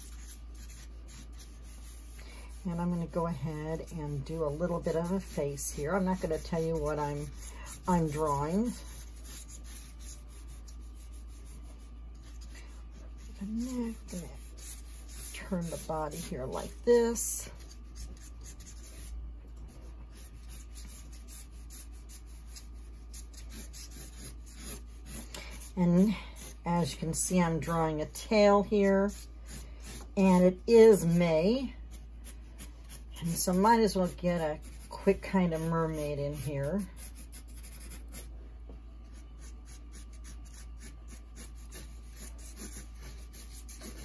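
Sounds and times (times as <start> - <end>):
marker sketching on paper: 0.0 - 19.2, 20.1 - 38.3, 39.0 - 44.0
steady low hum: 0.0 - 44.0.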